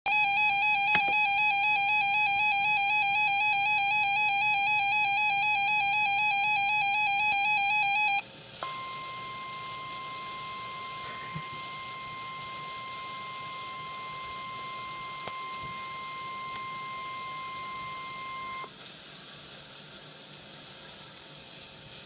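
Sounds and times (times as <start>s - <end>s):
steady high tone: 0.1s - 18.7s.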